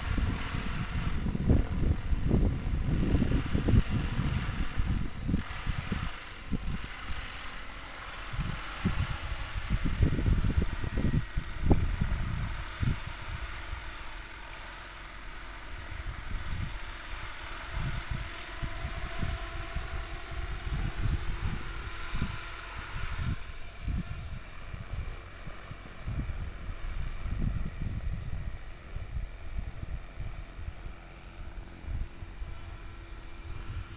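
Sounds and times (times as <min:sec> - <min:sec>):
distant model helicopter whine: 0:00.0 - 0:33.9
wind buffeting microphone: 0:00.0 - 0:33.9.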